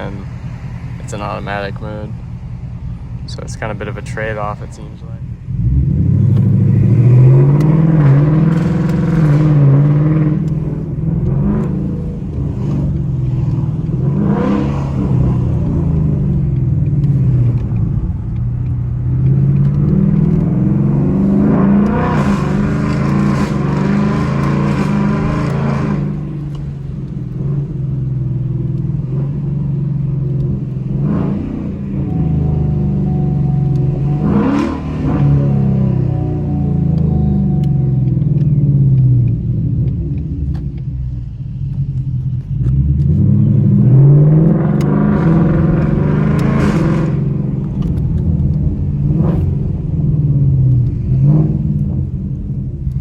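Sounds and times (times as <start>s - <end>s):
car engine revving while driving: 0.0s - 53.0s.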